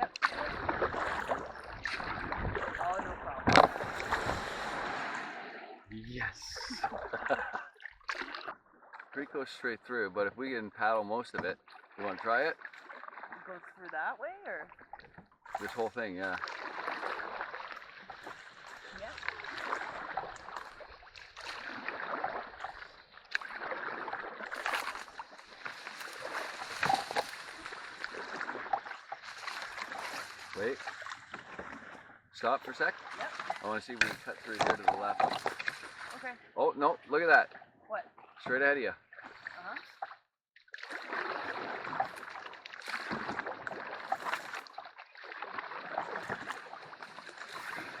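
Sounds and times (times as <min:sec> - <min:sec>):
paddle splashing in water: 0:00.0 - 0:09.6, 0:11.3 - 0:36.6, 0:37.2 - 0:48.0.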